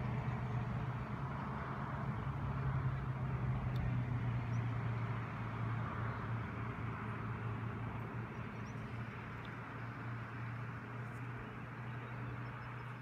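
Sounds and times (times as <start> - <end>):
distant vehicle engine hum: 0.0 - 13.0.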